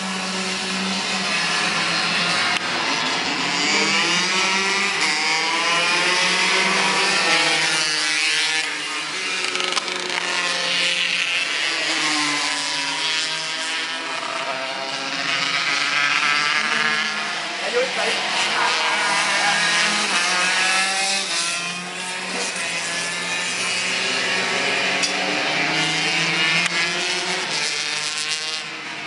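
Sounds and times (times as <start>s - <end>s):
go-kart engines revving: 0.0s - 29.0s.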